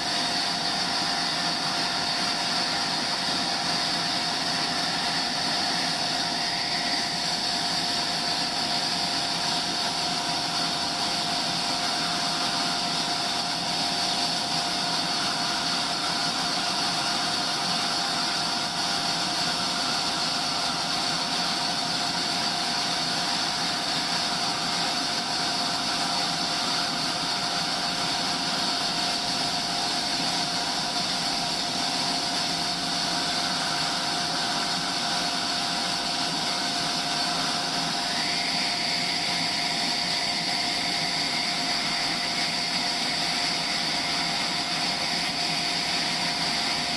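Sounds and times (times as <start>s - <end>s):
sawmill machinery humming: 0.0s - 46.9s.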